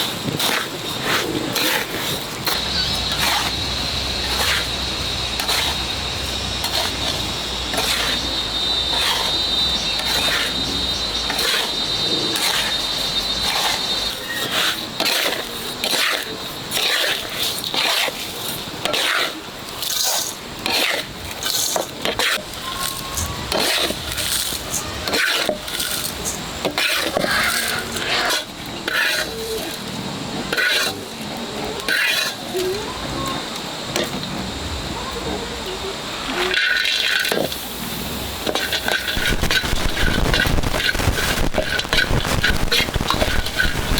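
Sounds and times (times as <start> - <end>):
steady high hiss: 0.0 - 43.9
spices scraped in dry pan: 0.1 - 29.8, 30.5 - 31.0, 38.4 - 43.9.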